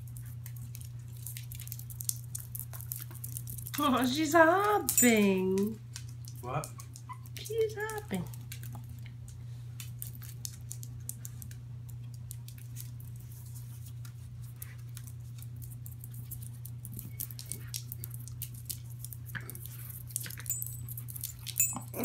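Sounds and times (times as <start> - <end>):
puppies playing: 0.0 - 22.0
steady low hum: 0.0 - 22.0.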